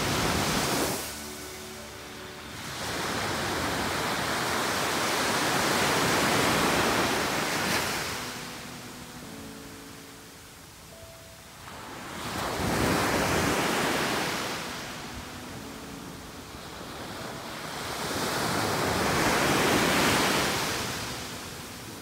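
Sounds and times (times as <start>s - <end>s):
small waves breaking on beach: 0.0s - 22.0s.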